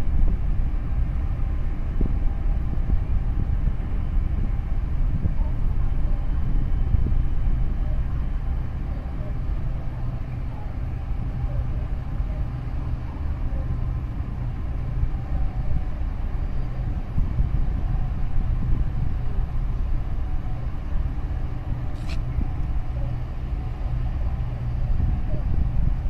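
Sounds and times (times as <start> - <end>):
ship engine rumble: 0.0 - 26.0.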